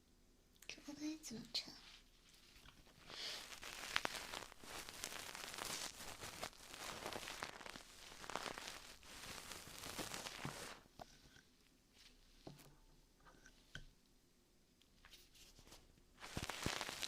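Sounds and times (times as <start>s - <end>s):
close crackling and rustling: 1.3s - 13.8s, 14.8s - 17.0s.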